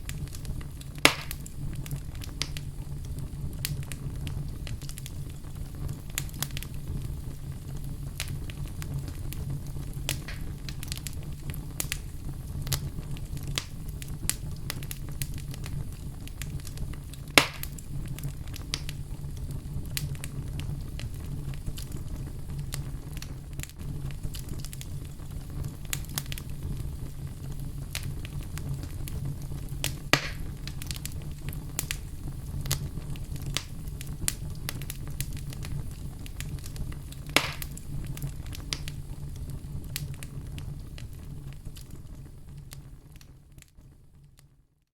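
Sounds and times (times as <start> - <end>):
loud fire pops: 0.0 - 44.5
fire crackling in fireplace: 0.0 - 44.9.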